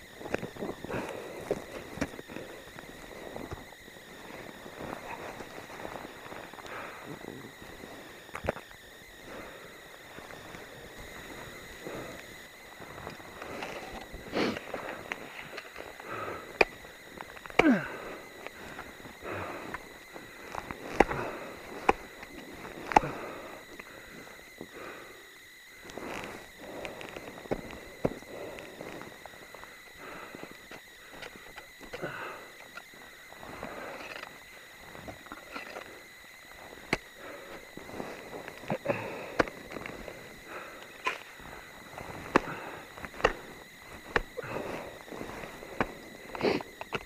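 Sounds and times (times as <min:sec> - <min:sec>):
crunching in snow: 0:00.0 - 0:25.0, 0:25.7 - 0:32.0, 0:32.6 - 0:47.0.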